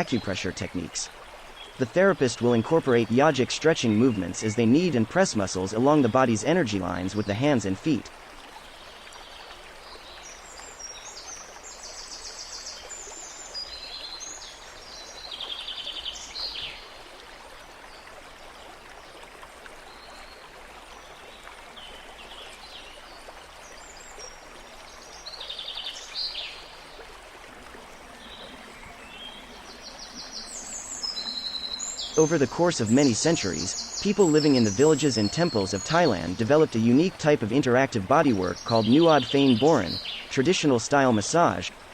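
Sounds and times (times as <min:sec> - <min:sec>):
running water hiss: 0:00.0 - 0:41.9
small birds trilling and chirping: 0:00.0 - 0:41.9.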